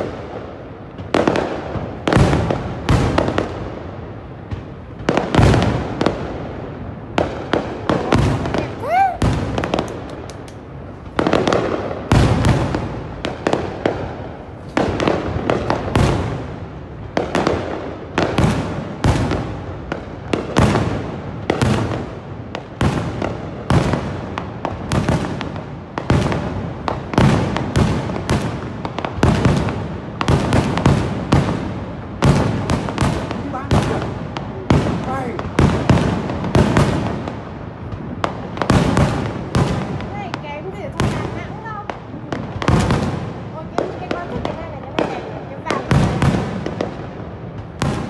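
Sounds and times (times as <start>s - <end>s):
fireworks bangs: 0.0s - 48.0s.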